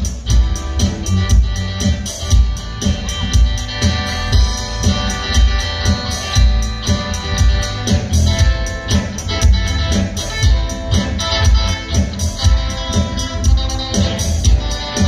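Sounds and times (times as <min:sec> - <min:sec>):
bass guitar: 0:00.0 - 0:15.0
cajon steady beat: 0:00.0 - 0:15.0
electric guitar: 0:00.0 - 0:15.0
keyboard: 0:00.0 - 0:15.0.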